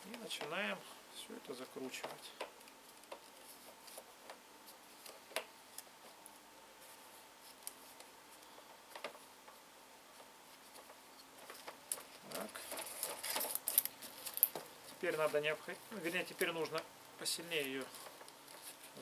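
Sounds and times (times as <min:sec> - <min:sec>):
hands rubbing plastic: 0:01.9 - 0:19.0.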